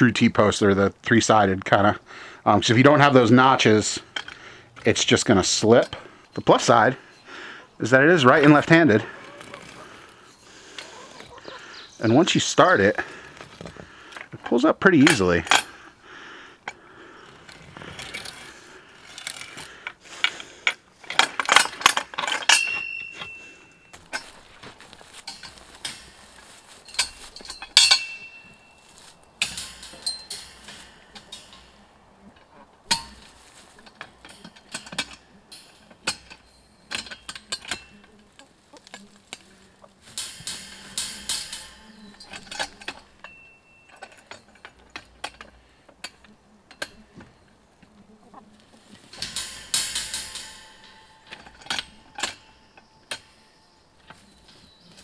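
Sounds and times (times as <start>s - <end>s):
scraping rattles: 2.6s - 16.0s, 16.6s - 55.0s
metal clicks and clanks: 3.0s - 7.0s, 7.9s - 16.0s, 16.6s - 55.0s.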